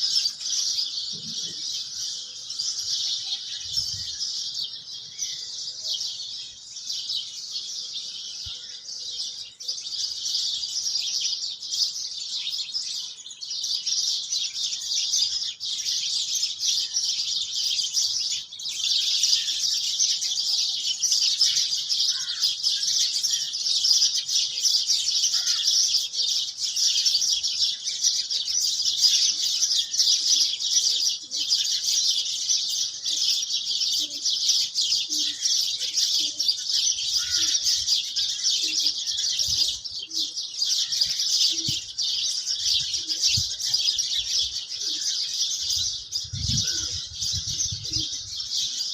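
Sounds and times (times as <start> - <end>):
birds chirping in chorus: 0.0 - 48.9.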